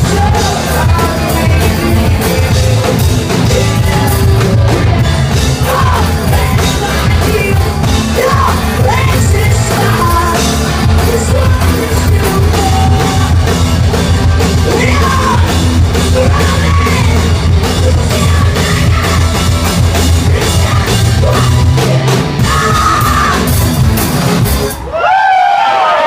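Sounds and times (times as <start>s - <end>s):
singer yelling vocals: 0.0s - 13.5s, 14.6s - 23.6s
drums: 0.0s - 26.0s
heavy rock band playing: 0.0s - 26.0s.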